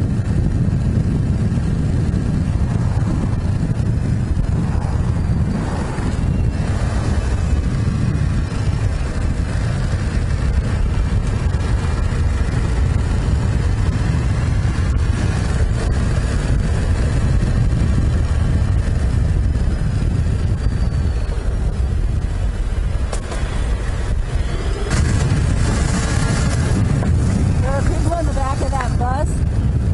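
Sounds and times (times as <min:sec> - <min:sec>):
vehicle engine and tyre noise: 0:00.0 - 0:29.9.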